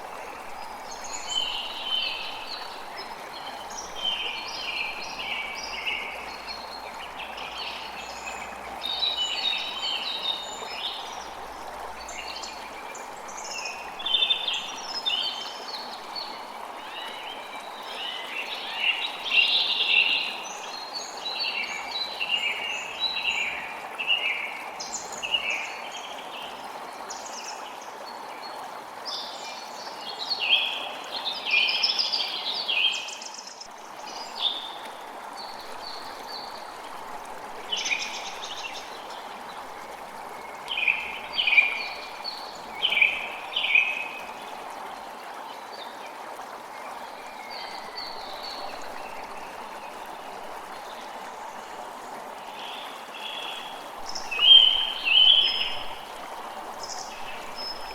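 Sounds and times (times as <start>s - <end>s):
creek running: 0.0s - 57.9s.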